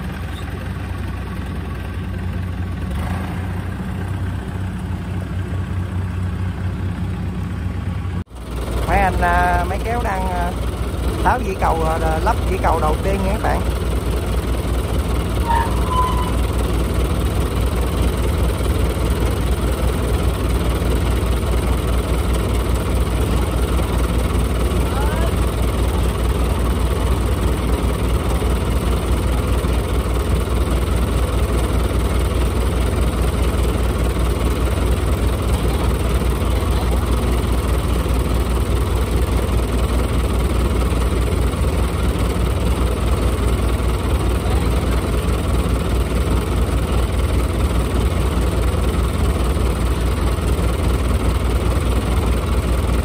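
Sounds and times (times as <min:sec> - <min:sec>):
diesel engine throbbing: 0:00.0 - 0:53.0.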